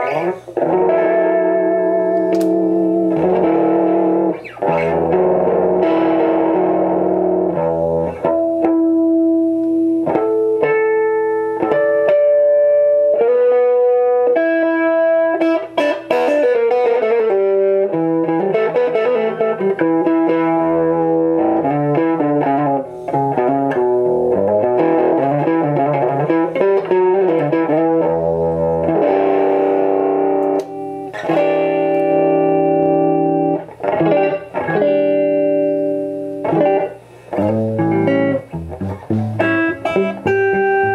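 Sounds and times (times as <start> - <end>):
electric guitar playing: 0.0 - 40.9.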